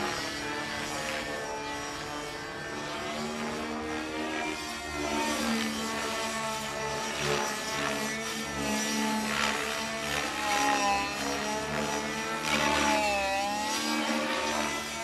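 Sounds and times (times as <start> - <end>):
model helicopter engine running: 0.0 - 15.0.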